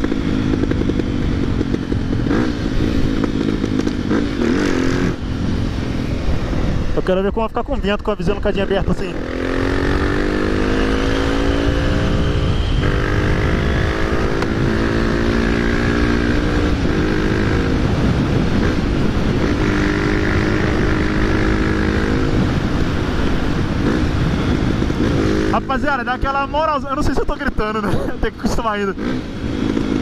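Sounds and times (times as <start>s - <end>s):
motorcycle engine revving: 0.0s - 7.0s, 8.4s - 27.0s, 27.7s - 30.0s
wind rush on microphone: 0.0s - 30.0s.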